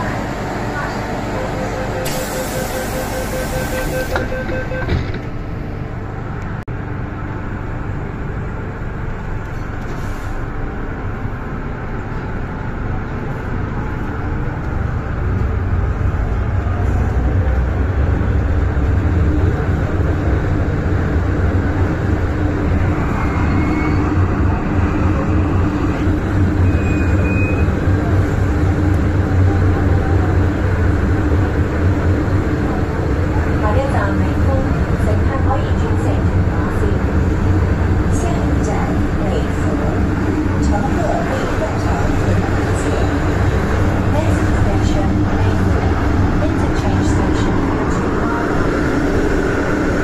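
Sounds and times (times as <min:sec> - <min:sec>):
train running rumble: 0:00.0 - 0:50.0.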